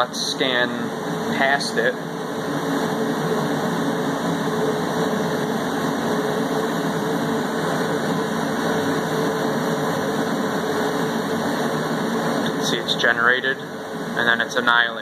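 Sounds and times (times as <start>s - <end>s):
machinery and ventilation hum: 0.0s - 15.0s.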